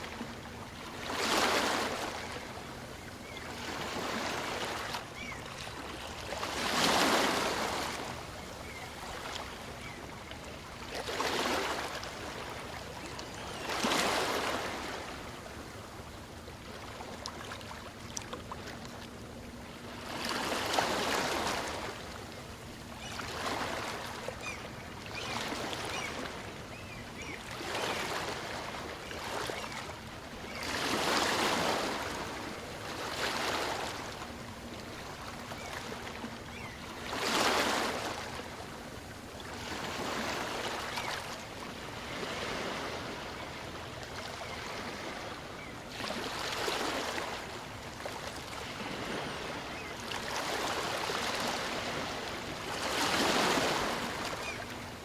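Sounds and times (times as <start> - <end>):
small waves breaking: 0.0 - 55.0.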